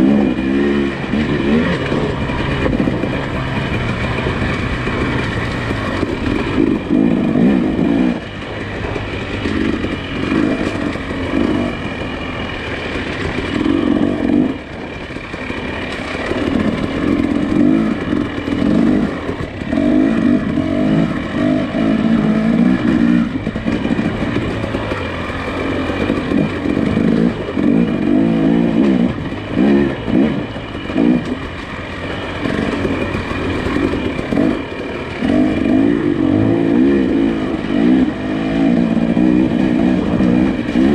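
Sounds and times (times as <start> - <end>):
clatter and knocks over bumps: 0.0 - 40.9.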